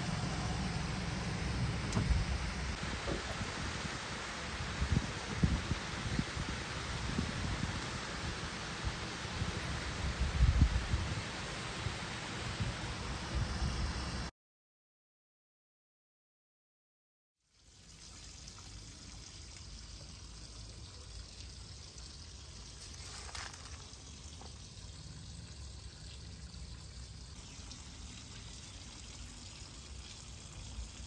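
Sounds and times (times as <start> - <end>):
garden hose spraying water: 0.0 - 14.3, 17.4 - 31.0.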